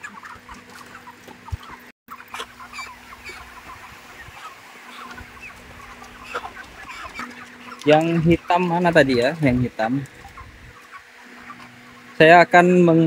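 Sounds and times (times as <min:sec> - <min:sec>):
chickens clucking: 0:00.0 - 0:13.0
steady low hum: 0:00.2 - 0:13.0.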